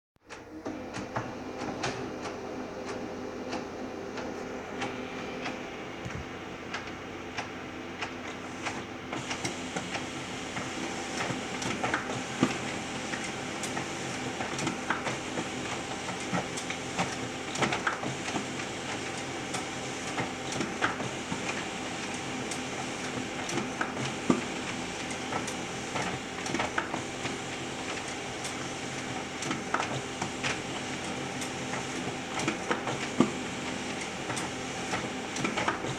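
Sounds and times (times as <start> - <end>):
printer clicks and rattles: 0.2 - 35.9
printer mechanical hum: 0.2 - 35.9.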